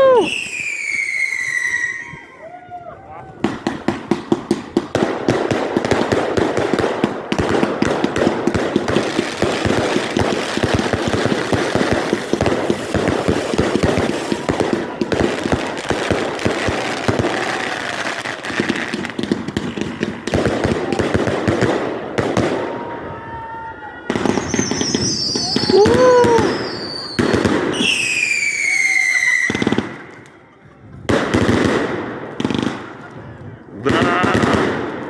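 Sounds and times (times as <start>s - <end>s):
firework bangs and crackles: 0.0s - 2.4s, 3.3s - 35.0s.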